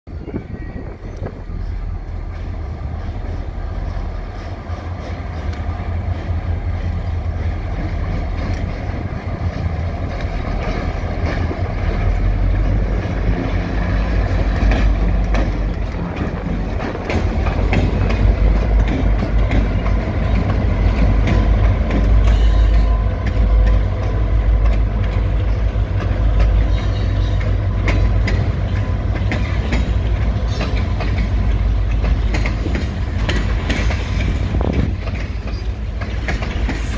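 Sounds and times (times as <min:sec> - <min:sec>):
diesel locomotives rumbling past: 0:00.1 - 0:36.9
train wheels clicking over rail joints: 0:01.0 - 0:36.9.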